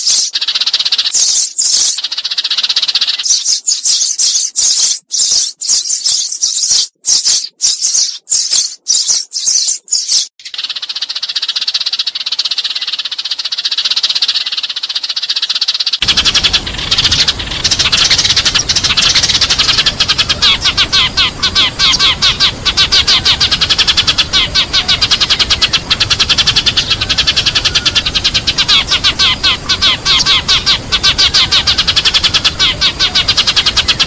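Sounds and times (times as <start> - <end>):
sparrows chirping and chattering: 0.0 - 34.0.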